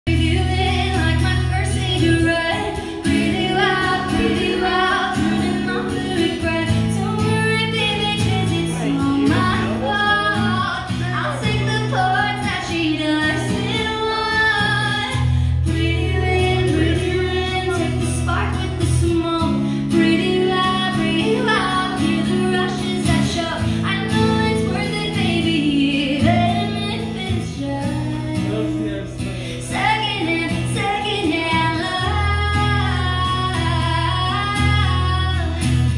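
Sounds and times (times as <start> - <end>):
woman singing: 0.1 - 29.0, 29.6 - 35.9
live band playing: 0.1 - 35.9.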